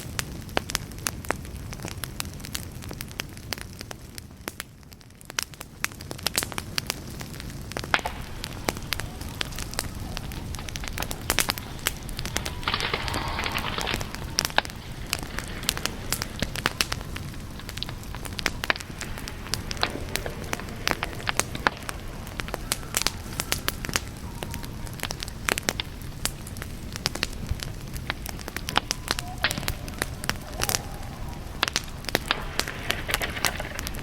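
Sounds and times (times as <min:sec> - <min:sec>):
campfire crackling and popping: 0:00.0 - 0:34.0
low rush of flame: 0:04.1 - 0:34.0.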